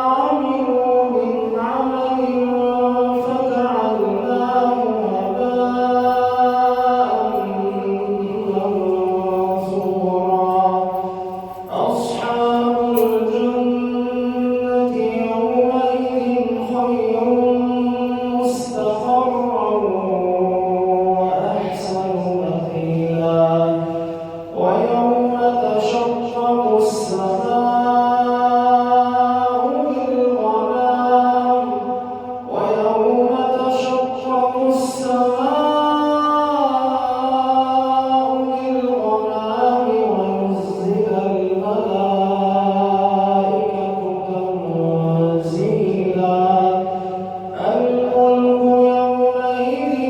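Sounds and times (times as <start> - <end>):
man chanting melodically: 0.0 - 50.0.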